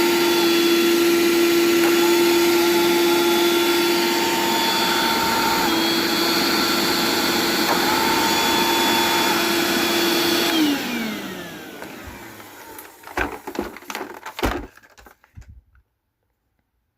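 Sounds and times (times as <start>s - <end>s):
vacuum cleaner motor whine: 0.0s - 14.1s.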